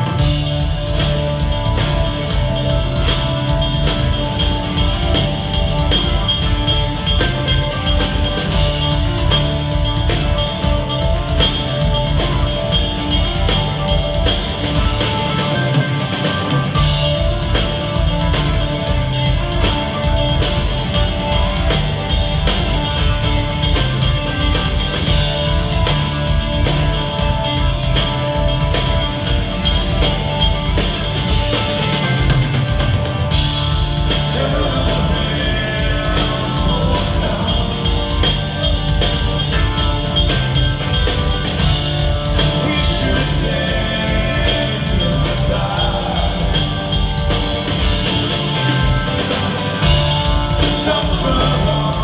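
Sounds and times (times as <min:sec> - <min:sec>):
drum kit: 0:00.0 - 0:52.0
keyboard lines: 0:00.0 - 0:52.0
progressive rock band playing: 0:00.0 - 0:52.0
sustained guitar: 0:00.0 - 0:52.0.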